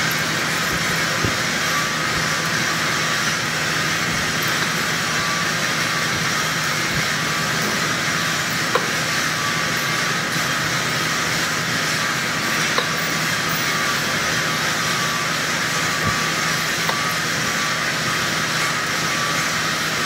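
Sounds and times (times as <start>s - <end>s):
motor and belt hum: 0.0s - 20.0s.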